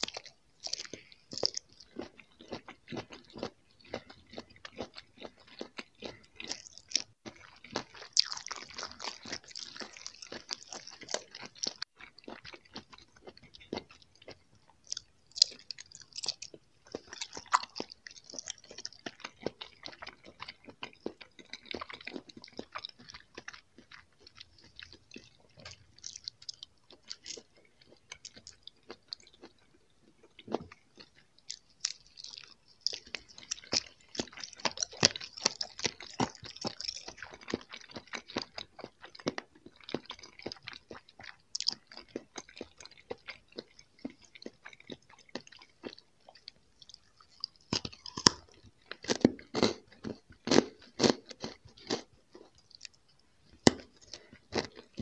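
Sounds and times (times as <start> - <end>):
person chewing jelly candies: 0.0 - 55.0.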